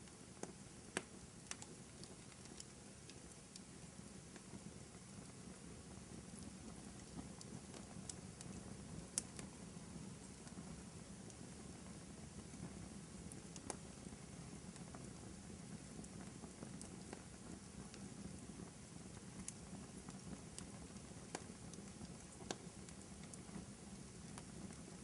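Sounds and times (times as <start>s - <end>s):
fire crackling with pops: 0.0s - 25.0s.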